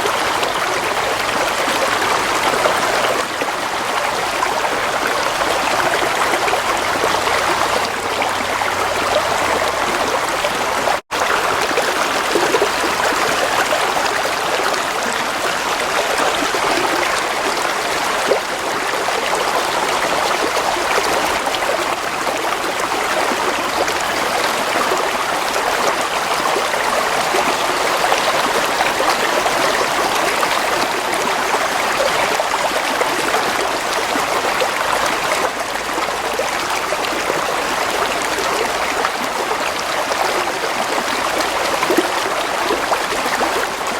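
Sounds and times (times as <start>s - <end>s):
gently flowing water: 0.0s - 43.9s.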